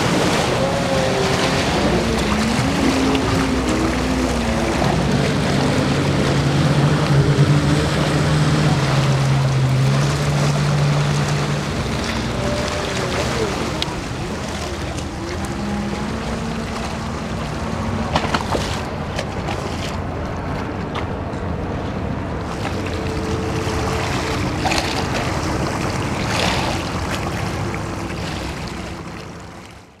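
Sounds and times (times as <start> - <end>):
boat engine droning: 0.0 - 30.0
water rushing along hull: 0.0 - 30.0.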